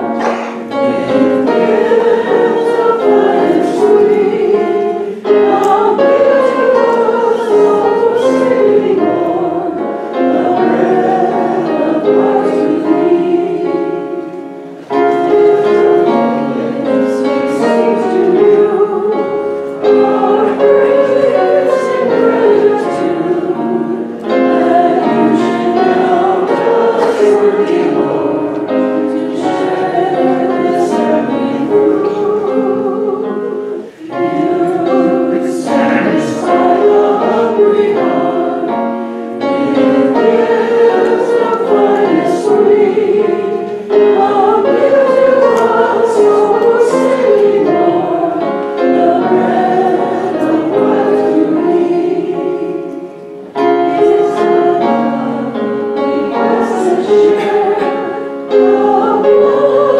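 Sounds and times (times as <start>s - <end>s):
congregation singing a hymn: 0.0s - 59.9s
musical accompaniment: 0.0s - 59.9s.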